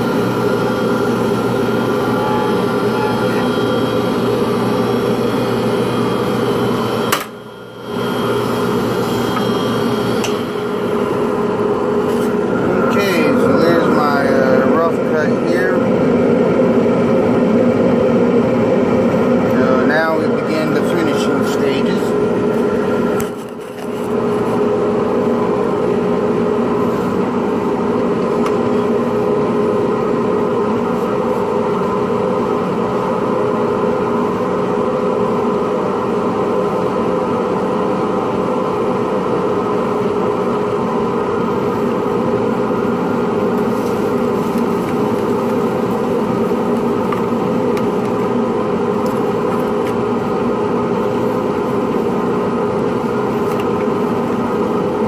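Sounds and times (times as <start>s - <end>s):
lathe motor humming: 0.0s - 55.0s.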